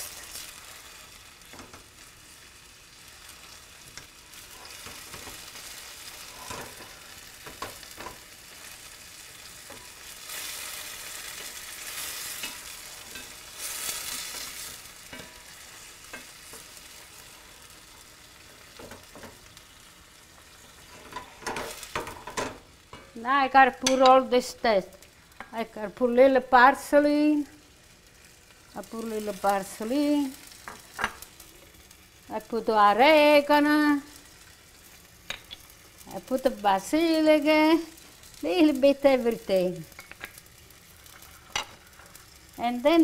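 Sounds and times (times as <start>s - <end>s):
vegetables sizzling in oil: 0.0s - 43.0s.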